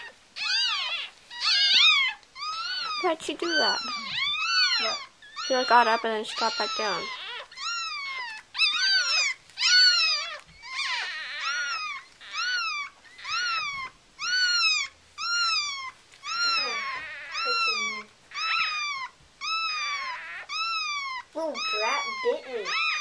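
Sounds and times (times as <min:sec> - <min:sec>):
puppies crying: 0:00.0 - 0:23.0.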